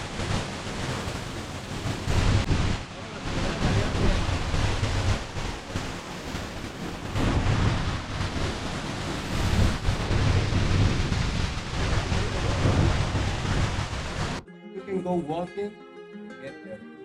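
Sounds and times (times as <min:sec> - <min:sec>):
waterfall rushing: 0:00.0 - 0:14.4
wind buffeting microphone: 0:00.0 - 0:14.4.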